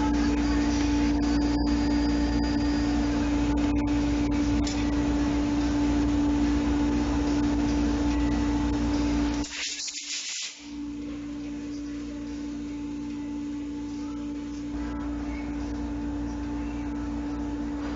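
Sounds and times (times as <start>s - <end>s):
machine hum with low drone: 0.0s - 17.9s.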